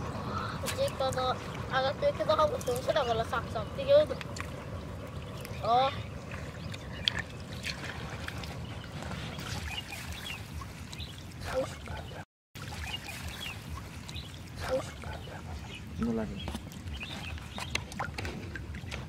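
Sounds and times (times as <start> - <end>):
water sloshing and trickling: 0.0 - 19.0
small splashes: 0.4 - 15.8.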